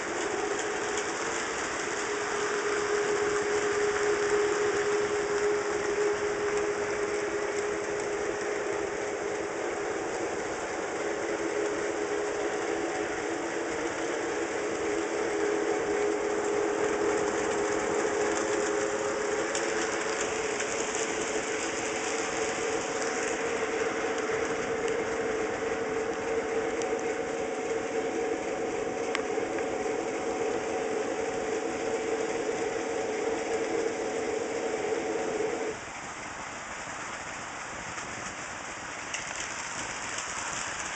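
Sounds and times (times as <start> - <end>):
model train motor hum: 0.0 - 40.9
wheels rushing on track: 0.0 - 40.9.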